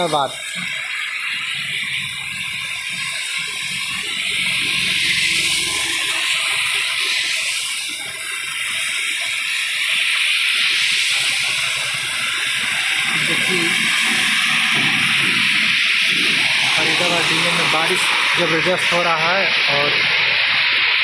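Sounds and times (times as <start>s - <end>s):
heavy rain on a road: 0.0s - 21.0s
vehicles driving through water: 0.0s - 21.0s.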